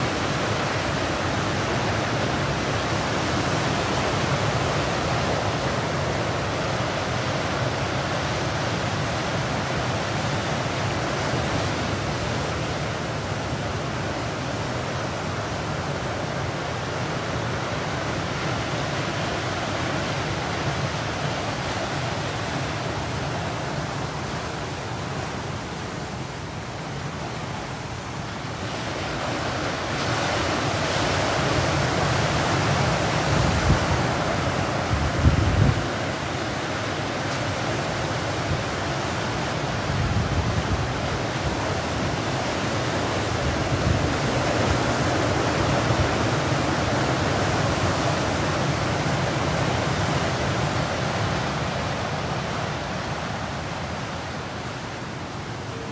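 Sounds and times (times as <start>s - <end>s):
ocean surf breaking on beach: 0.0s - 55.9s.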